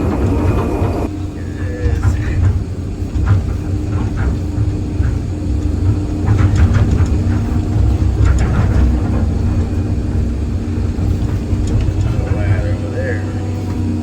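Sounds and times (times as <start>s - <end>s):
bursts of clatter: 0.0s - 14.0s
diesel engine rumbling: 0.0s - 14.0s.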